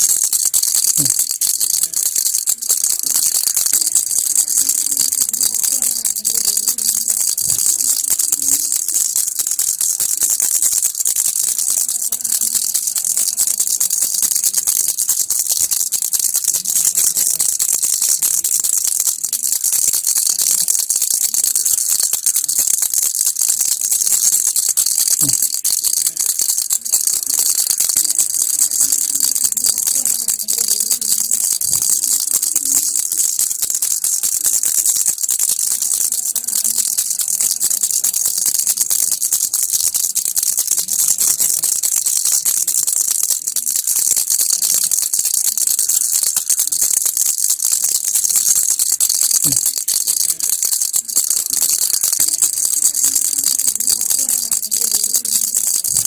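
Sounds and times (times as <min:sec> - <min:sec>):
baby rattle shaking: 0:00.0 - 0:56.0.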